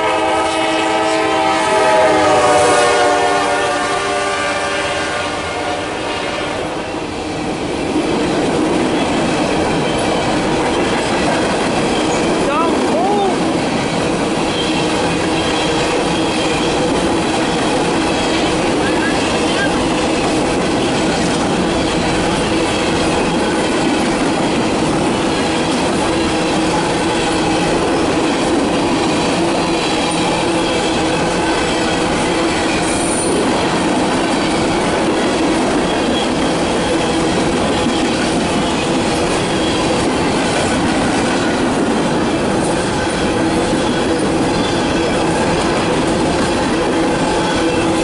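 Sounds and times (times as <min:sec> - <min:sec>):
steel wheels clattering on rail: 0:06.2 - 0:48.0.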